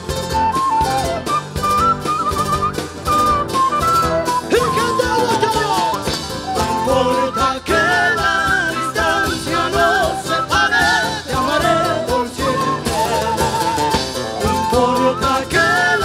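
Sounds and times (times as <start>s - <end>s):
live band playing through pa: 0.0s - 16.0s.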